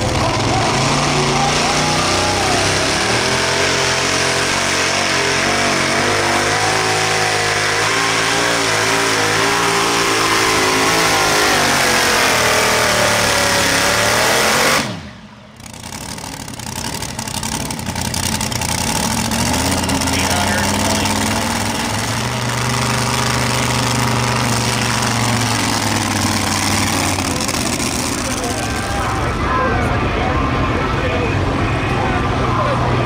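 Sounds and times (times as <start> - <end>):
tractor engine at full throttle: 0.0 - 33.0.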